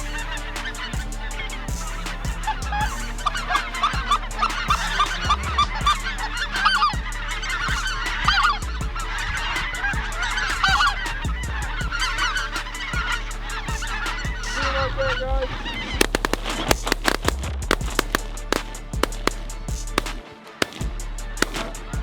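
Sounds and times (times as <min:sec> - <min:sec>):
geese honking: 0:00.0 - 0:22.0
sharp bangs: 0:00.0 - 0:22.0.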